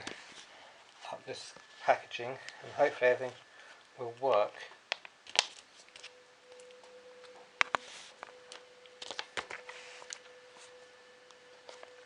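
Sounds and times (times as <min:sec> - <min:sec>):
faint steady hum: 0:00.0 - 0:12.0
packaging clicks and rustles: 0:00.0 - 0:12.0.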